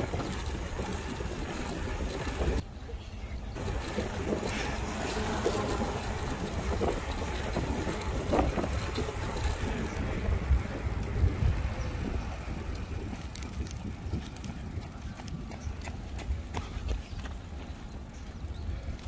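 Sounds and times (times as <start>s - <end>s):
wind rumble on microphone: 3.6s - 19.0s.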